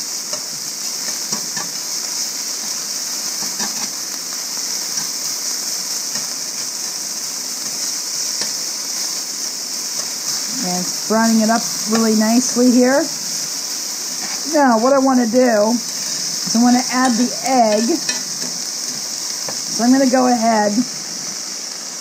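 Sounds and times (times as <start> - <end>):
food sizzling in a skillet: 0.0 - 22.0.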